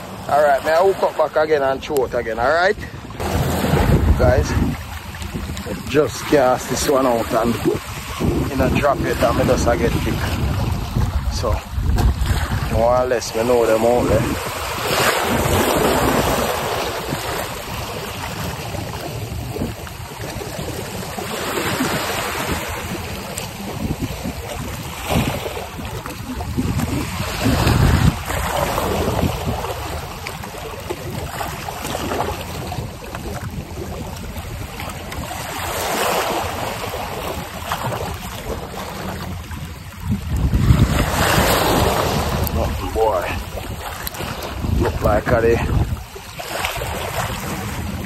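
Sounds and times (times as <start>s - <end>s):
small waves washing on shore: 0.0s - 48.0s
wind buffeting microphone: 0.0s - 48.0s.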